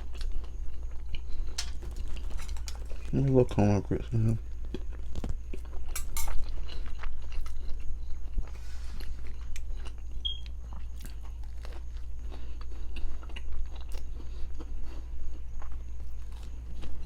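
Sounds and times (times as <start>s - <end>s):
chewing and biting food: 0.0s - 17.0s.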